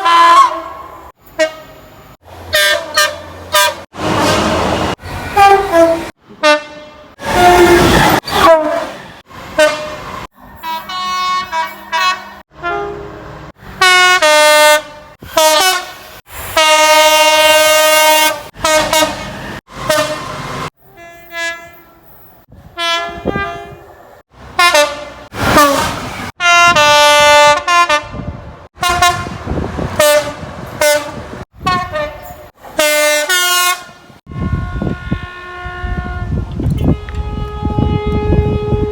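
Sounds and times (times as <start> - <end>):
train horn blasts: 0.0 - 1.9, 2.5 - 24.0, 24.6 - 38.9.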